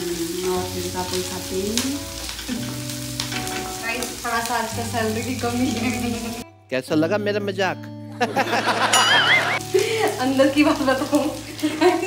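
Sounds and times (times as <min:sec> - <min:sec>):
onions sizzling in oil: 0:00.0 - 0:06.4, 0:08.8 - 0:12.0.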